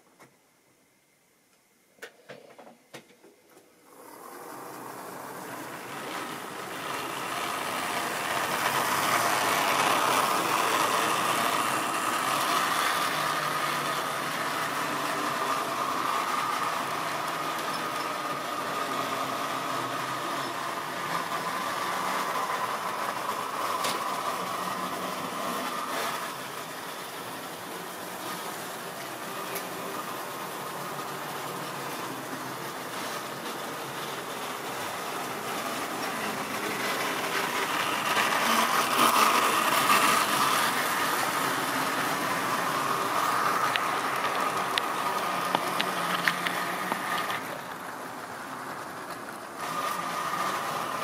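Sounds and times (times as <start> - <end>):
model train motor whine: 3.8 - 51.0.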